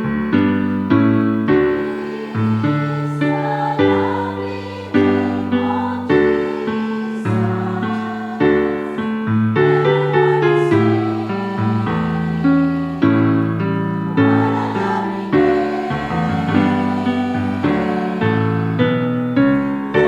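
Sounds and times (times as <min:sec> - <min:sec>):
choir singing softly: 0:00.0 - 0:20.0
piano playing chords: 0:00.0 - 0:20.0.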